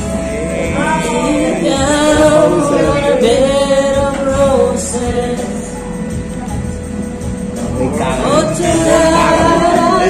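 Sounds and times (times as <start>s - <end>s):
person singing: 0.0s - 6.2s, 8.0s - 10.0s
karaoke backing track: 0.0s - 10.0s.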